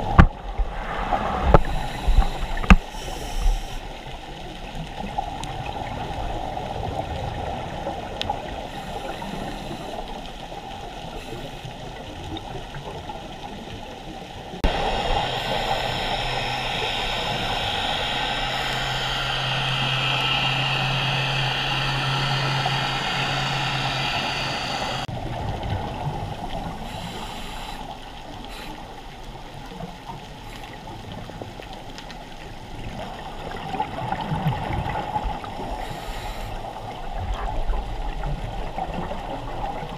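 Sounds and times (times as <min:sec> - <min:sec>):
low steady hum: 0:00.0 - 0:39.9
muffled underwater rushing water: 0:00.0 - 0:39.9.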